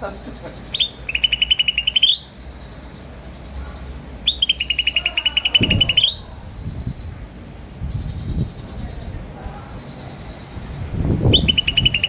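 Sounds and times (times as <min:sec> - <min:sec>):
bird chirping trills: 0:00.0 - 0:12.0.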